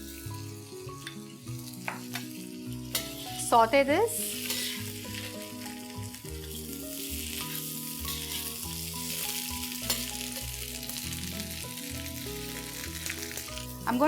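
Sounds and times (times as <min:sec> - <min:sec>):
background music: 0:00.0 - 0:14.0
vegetables sizzling in hot oil: 0:00.0 - 0:14.0.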